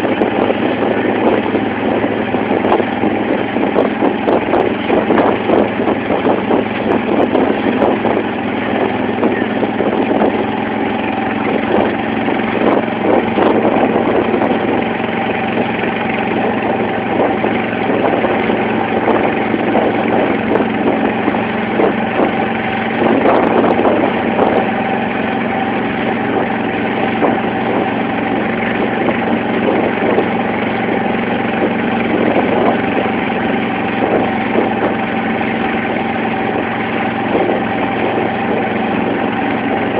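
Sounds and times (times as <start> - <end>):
motorboat engine running: 0.0 - 39.9
water splashing along hull: 0.0 - 39.9.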